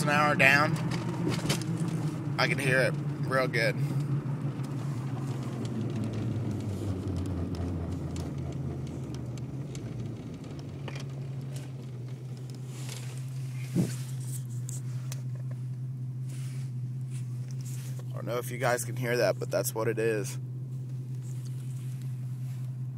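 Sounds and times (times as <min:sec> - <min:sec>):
low engine hum: 0:00.0 - 0:22.9
low rumbling vibration: 0:00.0 - 0:22.9.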